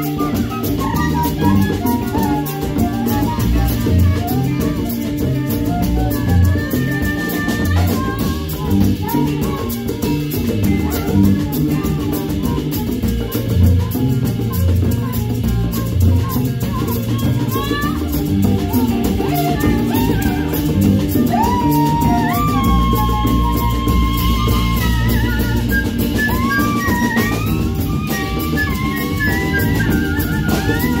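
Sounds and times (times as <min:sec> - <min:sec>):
drum kit beat: 0:00.0 - 0:31.0
sliding lead melody: 0:00.0 - 0:31.0.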